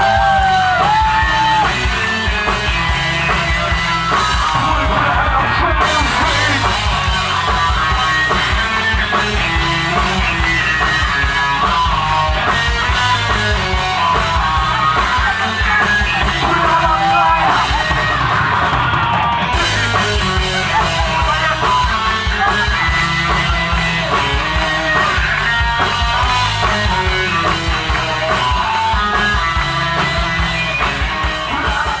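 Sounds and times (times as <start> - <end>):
bass and drums: 0.0 - 32.0
electric guitar: 0.0 - 32.0
rock band playing live: 0.0 - 32.0.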